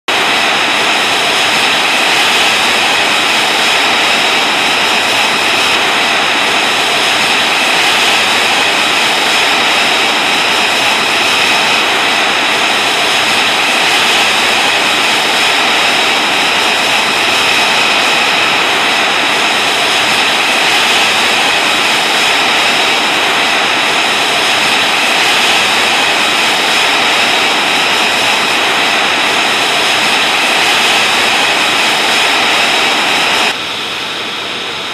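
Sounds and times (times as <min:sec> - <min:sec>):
jet engine running with whine: 0:00.0 - 0:34.9.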